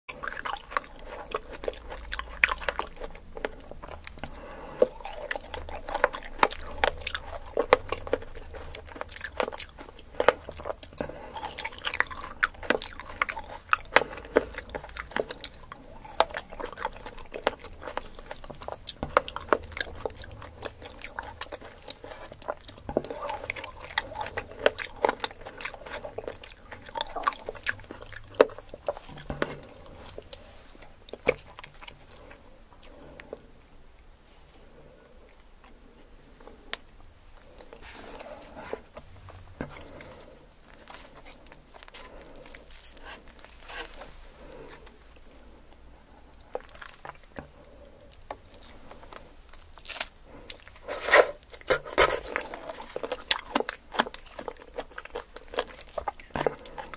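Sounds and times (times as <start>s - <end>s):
person biting and chewing fruit: 0.1s - 56.9s.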